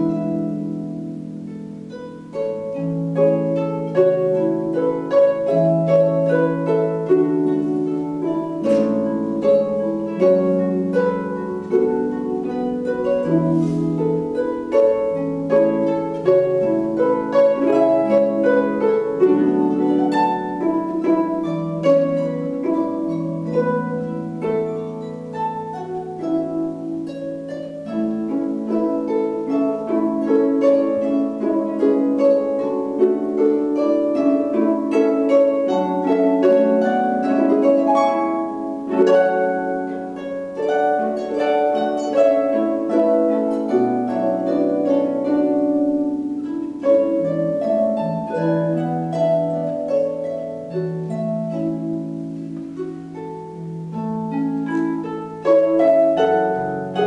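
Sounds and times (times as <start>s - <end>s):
harps playing: 0.0s - 57.0s.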